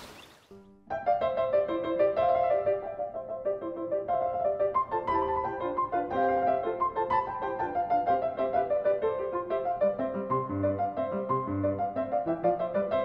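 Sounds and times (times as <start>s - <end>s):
piano music: 0.5s - 13.0s.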